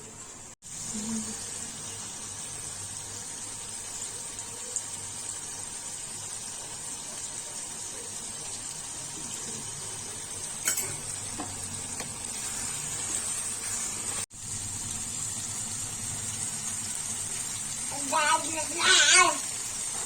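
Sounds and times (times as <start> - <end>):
curry sizzling in a pan: 0.0 - 20.0.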